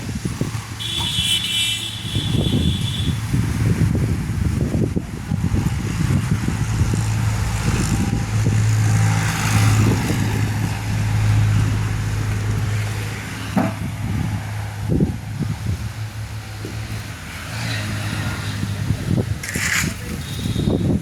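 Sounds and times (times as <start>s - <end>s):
engine humming: 0.8s - 20.4s.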